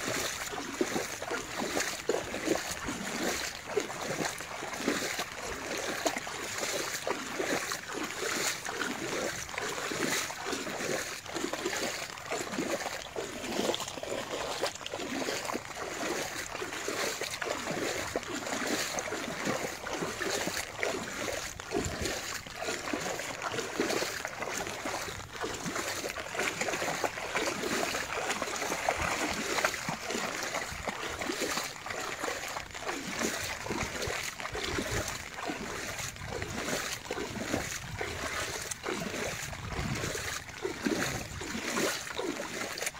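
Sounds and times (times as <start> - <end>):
dog splashing through water: 0.0 - 42.9.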